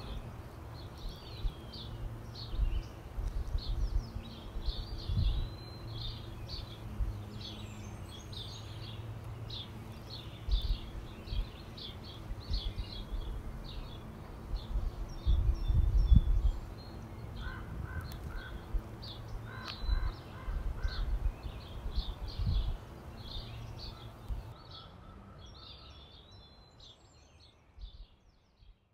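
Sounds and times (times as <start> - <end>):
lower repeated bird calls: 0.0 - 28.8
small birds chirping: 0.0 - 28.9.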